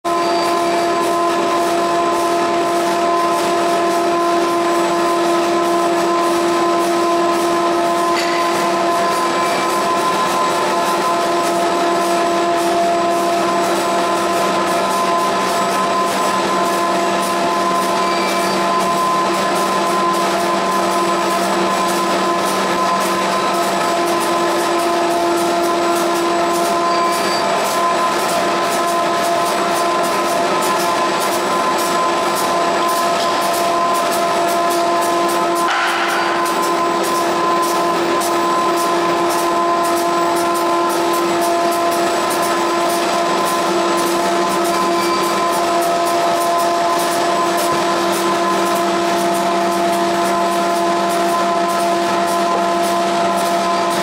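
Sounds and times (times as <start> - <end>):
printing press machine hum: 0.1 - 54.0.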